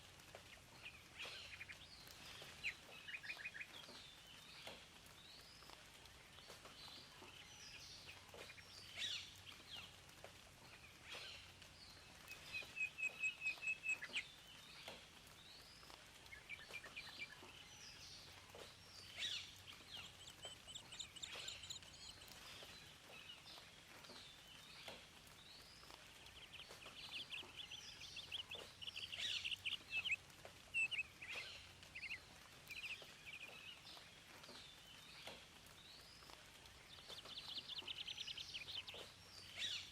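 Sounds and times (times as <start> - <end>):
faint steady hiss: 0.0 - 39.9
songbirds singing and calling: 0.0 - 39.9.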